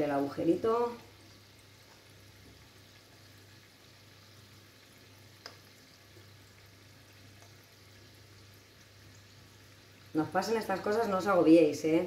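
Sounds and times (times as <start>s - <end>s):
dough frying in hot oil: 0.0s - 12.0s.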